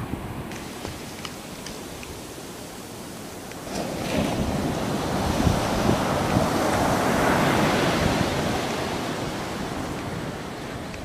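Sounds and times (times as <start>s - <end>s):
waves washing in: 0.0s - 11.0s
wind rumbling on microphone: 0.0s - 11.0s.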